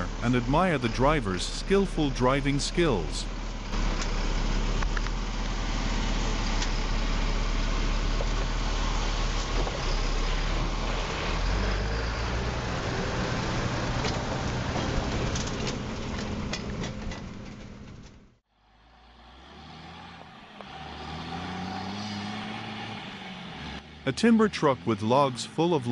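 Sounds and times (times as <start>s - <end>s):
diesel truck engine running: 0.0s - 25.9s.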